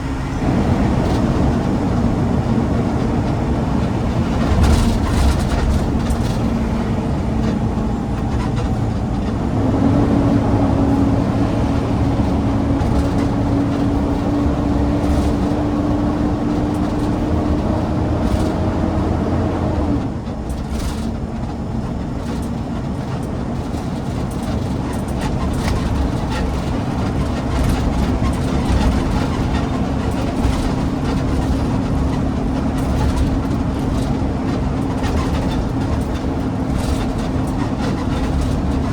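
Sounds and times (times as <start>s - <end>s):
garbage truck diesel engine: 0.0s - 38.9s
road rumble: 0.0s - 38.9s.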